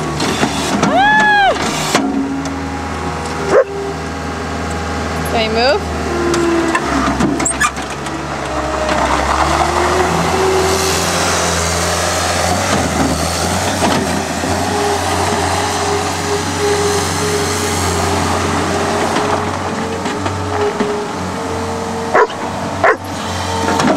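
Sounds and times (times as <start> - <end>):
diesel engine driving past: 0.0 - 23.9.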